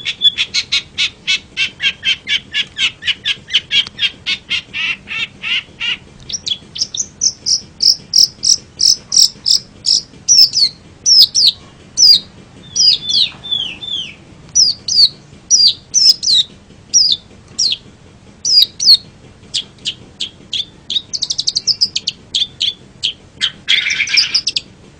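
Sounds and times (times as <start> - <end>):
shrike singing: 0.0 - 17.8, 18.4 - 24.7.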